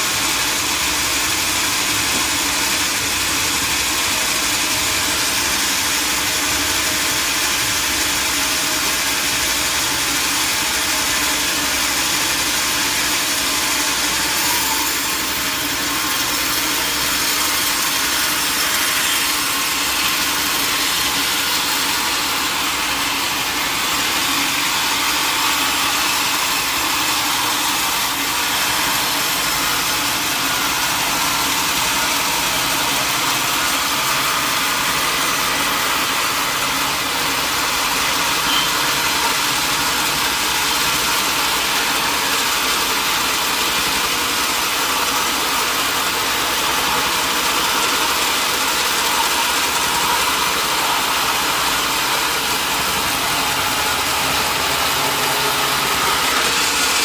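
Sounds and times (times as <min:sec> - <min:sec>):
saw cutting through wood: 0:00.0 - 0:57.0
sawmill machinery running: 0:00.0 - 0:57.0.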